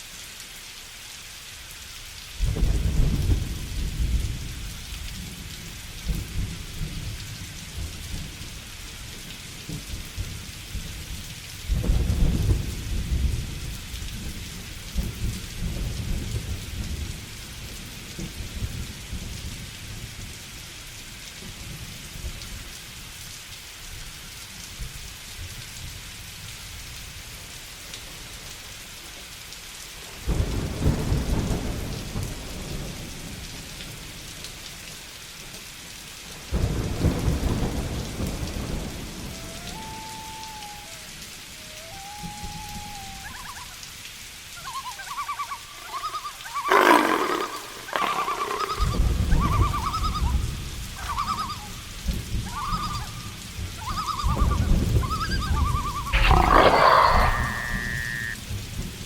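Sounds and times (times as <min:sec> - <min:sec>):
heavy rain hissing: 0:00.0 - 0:20.3, 0:26.3 - 0:53.9, 0:54.6 - 0:59.0.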